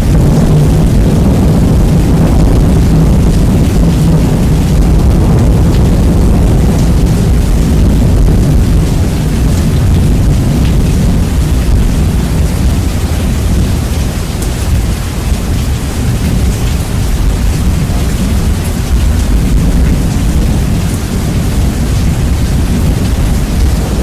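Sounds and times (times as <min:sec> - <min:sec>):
deep thunder rumble: 0:00.0 - 0:24.0
rain: 0:00.0 - 0:24.0.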